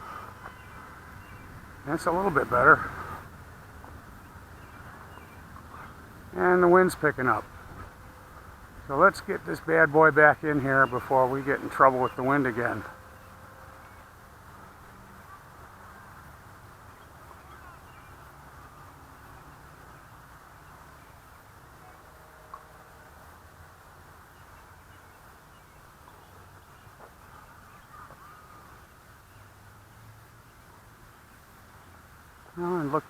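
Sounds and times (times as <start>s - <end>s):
birds calling: 0.0s - 22.6s, 23.8s - 33.0s.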